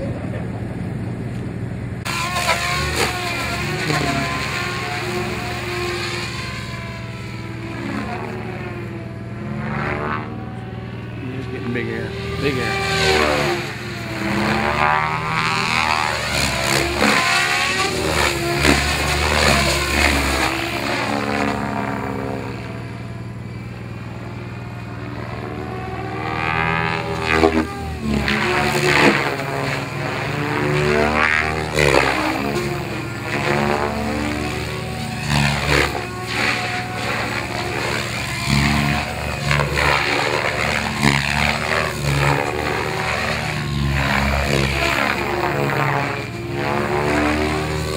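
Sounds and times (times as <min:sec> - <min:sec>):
model helicopter rotor drone: 0:00.0 - 0:47.9
whooshing as helicopter passes: 0:00.0 - 0:47.9.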